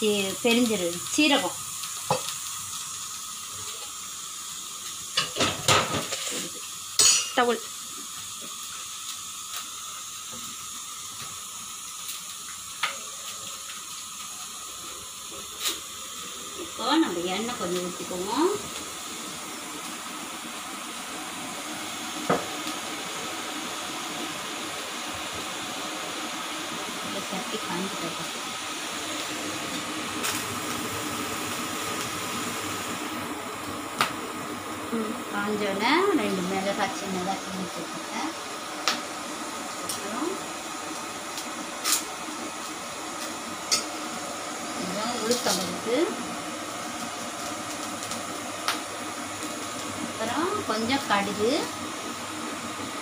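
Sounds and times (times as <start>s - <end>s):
gas burner hiss: 0.0s - 53.0s.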